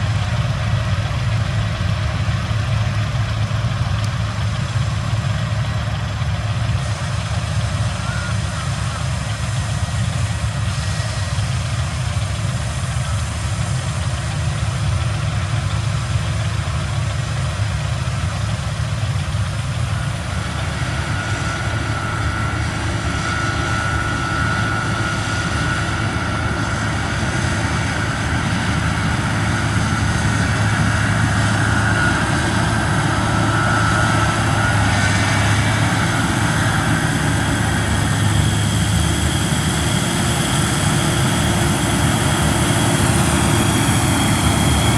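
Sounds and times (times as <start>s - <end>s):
harvest machinery engine rumble: 0.0s - 44.9s
high steady whine: 6.6s - 44.9s.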